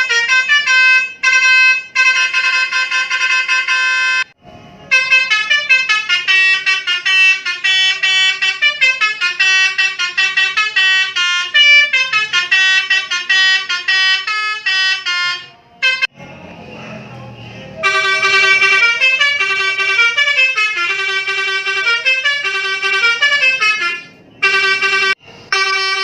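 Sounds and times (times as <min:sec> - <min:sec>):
multi-tone horn playing a tune: 0:00.0 - 0:16.2, 0:17.8 - 0:26.0.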